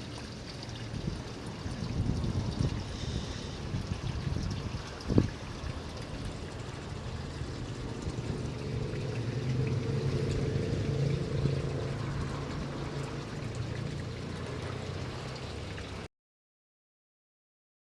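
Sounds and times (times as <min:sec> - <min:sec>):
water rushing: 0:00.0 - 0:16.1.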